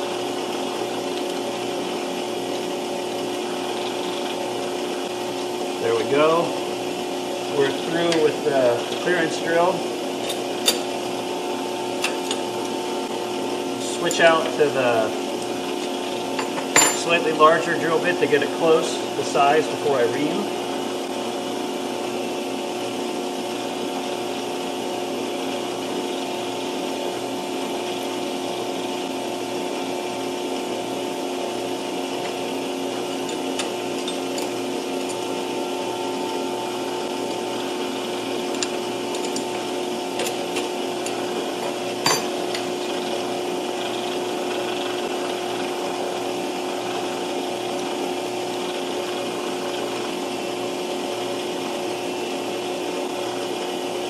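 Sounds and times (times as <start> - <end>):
metal lathe humming: 0.0 - 54.0.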